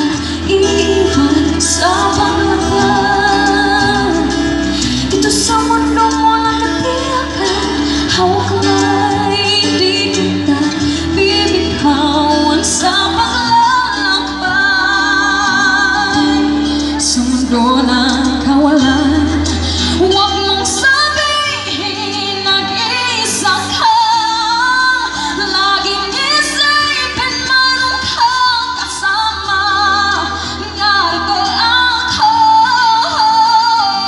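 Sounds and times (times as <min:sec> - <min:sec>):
woman singing into a microphone: 0:00.0 - 0:34.0.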